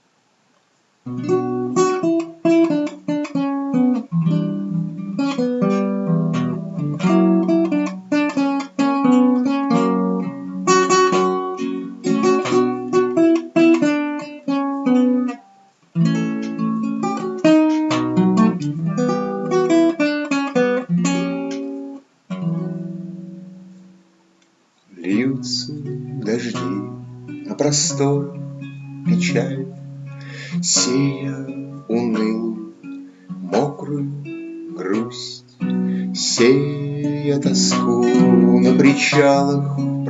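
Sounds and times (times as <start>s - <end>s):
acoustic guitar strumming: 1.0s - 40.0s.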